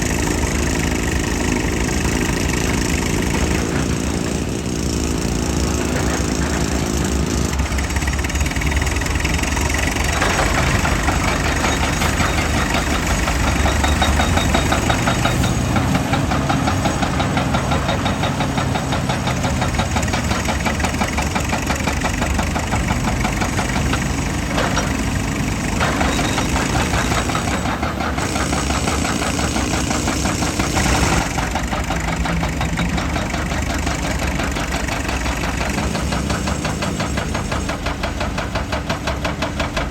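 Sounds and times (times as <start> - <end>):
heavy diesel machinery knocking: 0.0 - 39.9.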